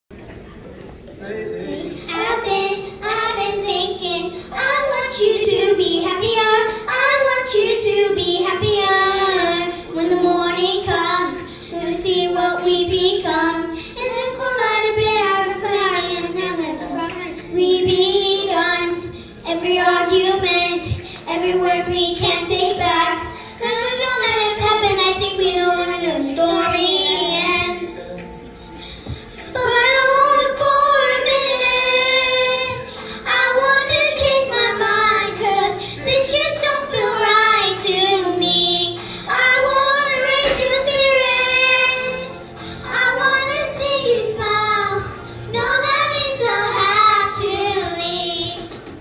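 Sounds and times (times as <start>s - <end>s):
backing music: 0.1s - 49.0s
girls singing into microphones: 1.8s - 49.0s.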